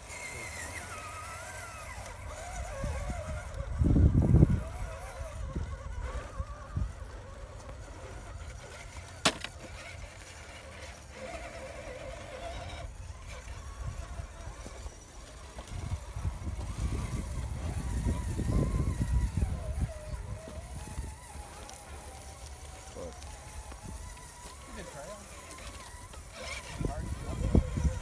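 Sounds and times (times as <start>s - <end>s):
electric motors whining: 0.0s - 28.0s
wind rumble on microphone: 1.4s - 9.0s, 11.3s - 28.0s.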